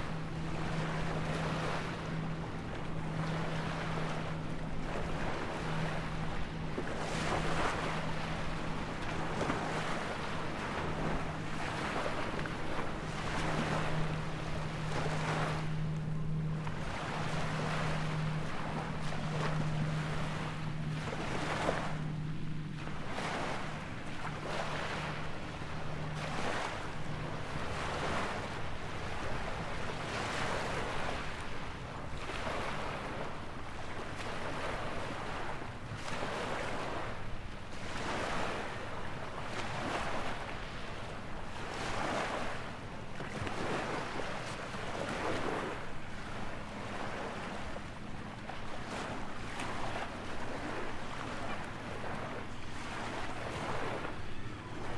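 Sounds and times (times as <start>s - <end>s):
motorboat engine hum: 0.0s - 54.9s
small waves washing: 0.0s - 54.9s
wind: 0.0s - 54.9s.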